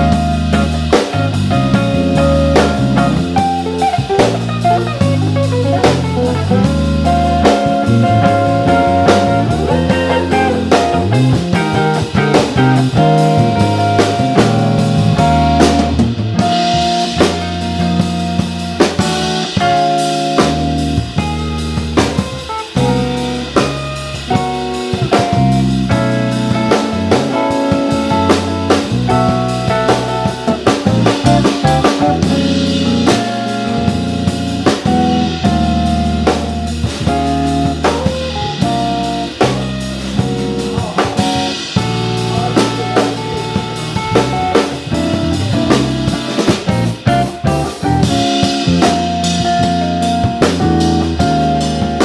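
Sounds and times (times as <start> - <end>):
busy drumming: 0.0 - 52.0
electric bass line: 0.0 - 52.0
electric guitar melody: 0.0 - 52.0.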